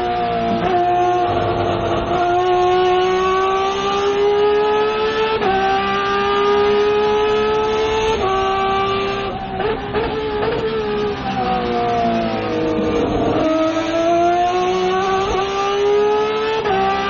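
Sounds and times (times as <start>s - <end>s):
racing car engine revving: 0.0s - 17.0s.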